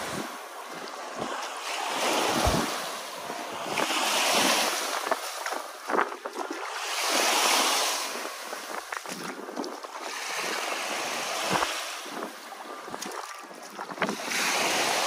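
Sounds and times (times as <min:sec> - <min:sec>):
small waves washing onto shore: 0:00.0 - 0:15.0.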